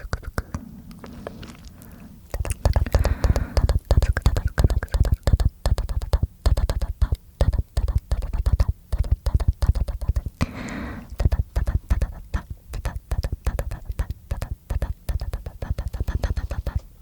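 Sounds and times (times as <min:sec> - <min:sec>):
mouth clicks and pops: 0:00.0 - 0:16.9.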